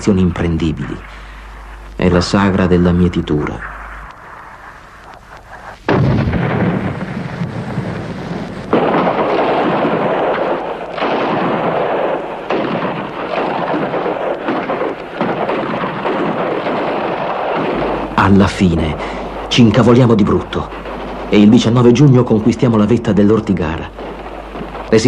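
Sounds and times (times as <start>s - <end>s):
heavy rumble: 0.3s - 25.0s
explosion blasts: 3.4s - 25.0s.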